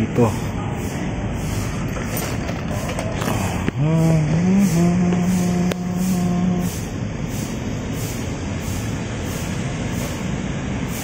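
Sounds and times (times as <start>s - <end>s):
background traffic rumble: 0.0s - 11.0s
vehicle engine droning: 0.0s - 11.0s.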